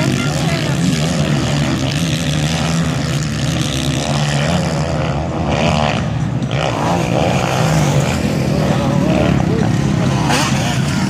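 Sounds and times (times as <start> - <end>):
motocross bike engines: 0.0 - 11.0.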